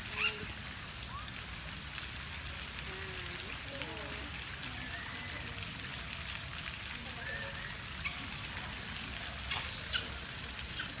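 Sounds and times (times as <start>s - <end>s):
hissing outdoor ambience: 0.0s - 11.0s.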